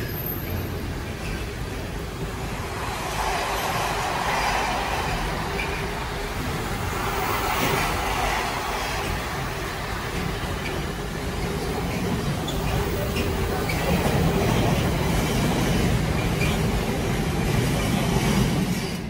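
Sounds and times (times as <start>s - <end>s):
freight train wagons rolling: 0.0s - 19.0s.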